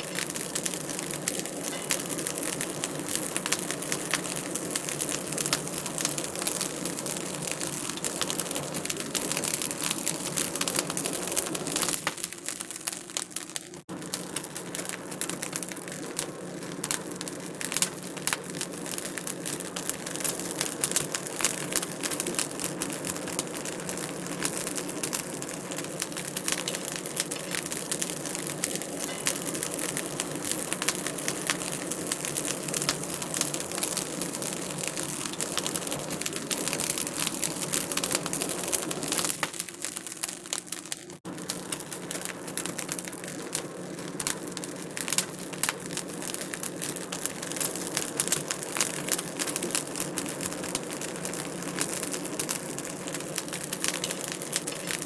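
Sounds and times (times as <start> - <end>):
fire crackling in fireplace: 0.0 - 55.0.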